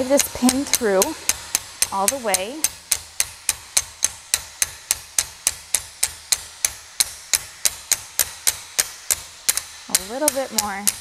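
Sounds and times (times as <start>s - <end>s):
hammer tapping metal pin: 0.0s - 11.0s.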